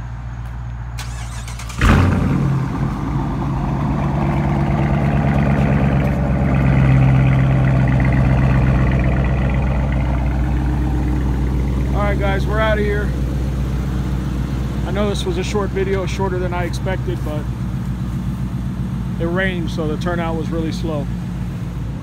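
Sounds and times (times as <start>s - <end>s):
car engine starting and idling: 0.3s - 22.0s.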